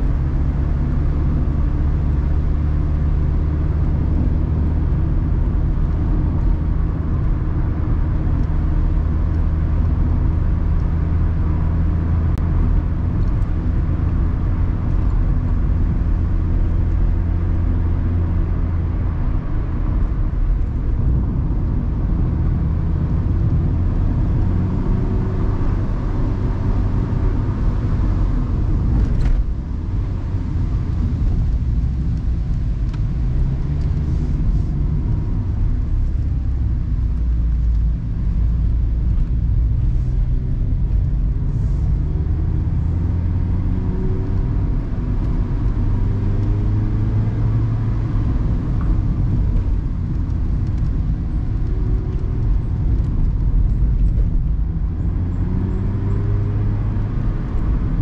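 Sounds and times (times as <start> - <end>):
car engine running: 0.0 - 58.0
road noise: 0.0 - 58.0.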